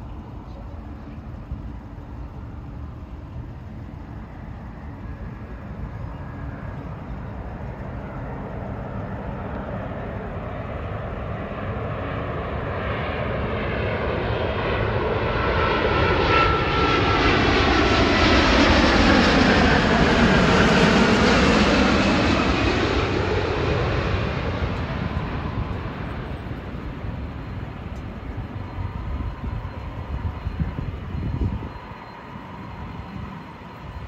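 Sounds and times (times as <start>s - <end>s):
jet airliner passing overhead: 0.0s - 34.0s.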